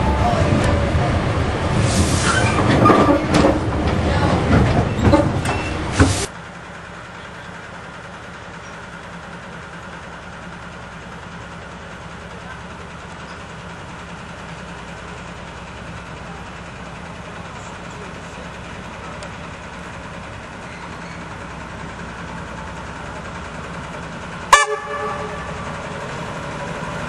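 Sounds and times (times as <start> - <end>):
diesel locomotive idling hum: 0.0 - 27.0
train rattling and clanking: 0.0 - 27.0.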